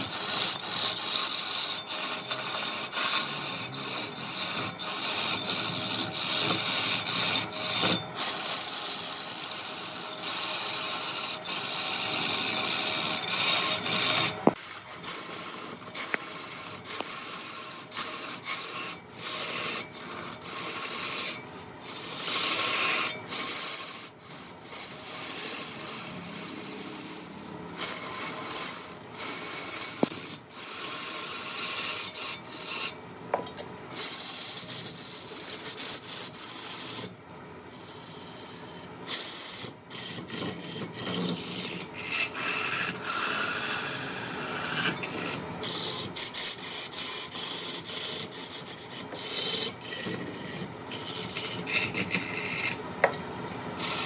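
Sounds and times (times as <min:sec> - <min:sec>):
lathe tool scraping wood: 0:00.0 - 0:33.0, 0:33.9 - 0:54.0.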